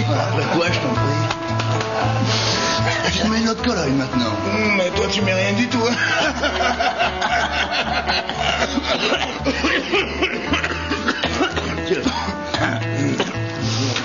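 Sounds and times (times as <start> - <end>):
background music with bass: 0.0 - 14.0.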